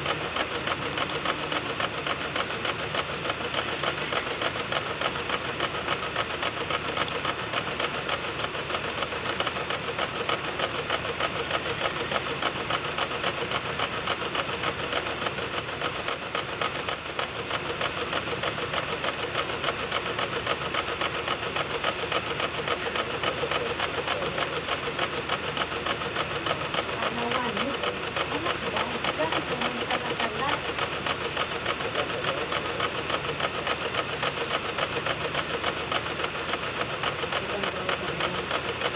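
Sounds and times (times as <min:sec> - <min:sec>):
disc drive clicking: 0:00.0 - 0:38.9
spinning disc whir: 0:00.0 - 0:38.9.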